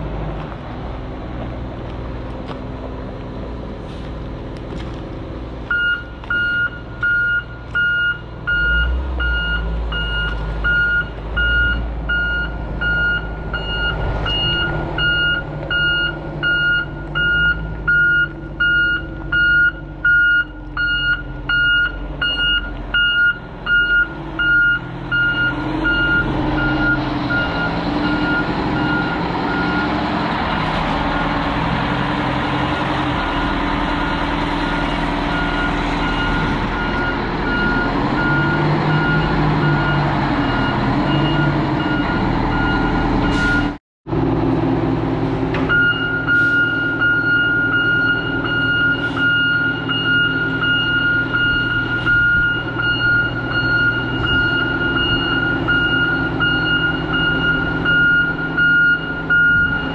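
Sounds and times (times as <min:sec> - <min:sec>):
engine running: 0:00.0 - 0:59.9
reversing alarm beeping: 0:05.7 - 0:30.0, 0:33.1 - 0:43.8, 0:45.7 - 0:59.9.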